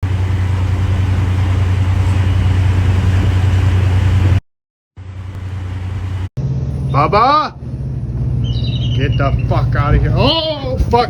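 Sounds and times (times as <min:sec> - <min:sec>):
low engine hum: 0:00.0 - 0:04.4, 0:05.0 - 0:11.0.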